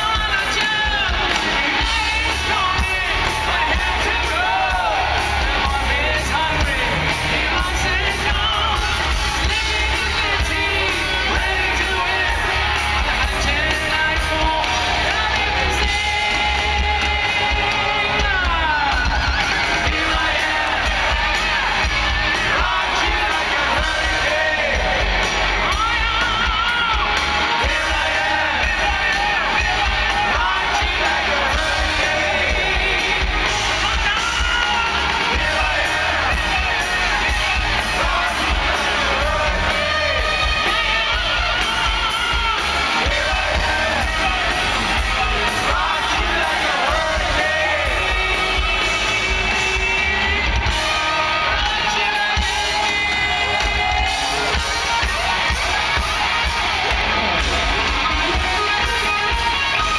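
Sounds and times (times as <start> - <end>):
crowd yelling along: 0.0 - 59.9
hard rock band playing live: 0.0 - 59.9
singer's voice: 0.0 - 59.9.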